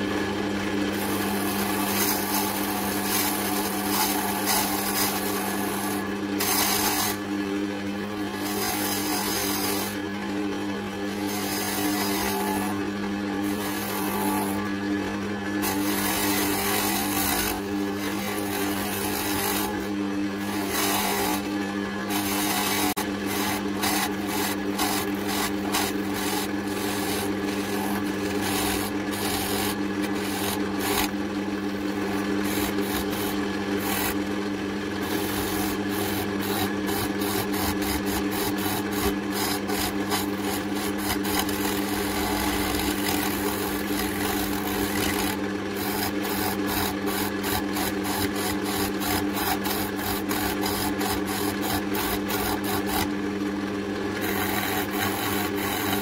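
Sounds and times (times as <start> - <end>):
wood lathe humming: 0.0 - 56.0
turning tool rasping wood: 0.8 - 53.2, 54.0 - 56.0.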